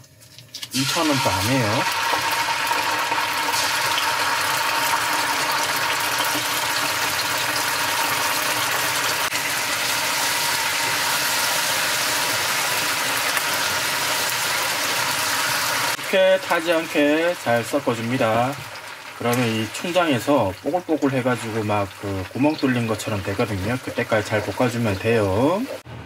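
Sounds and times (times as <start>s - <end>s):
paste sizzling in oil: 0.1s - 25.8s.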